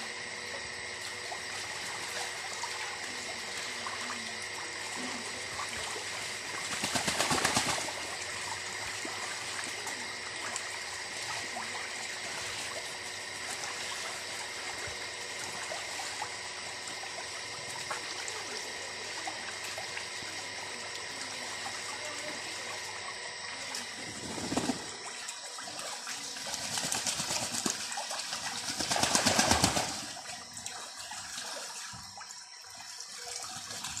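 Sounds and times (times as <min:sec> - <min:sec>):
trickling water: 0:00.4 - 0:34.0.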